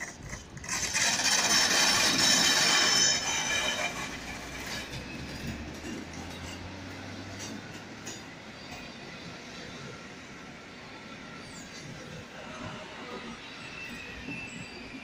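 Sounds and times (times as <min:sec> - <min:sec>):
train coaches rolling on rails: 0:00.0 - 0:15.0.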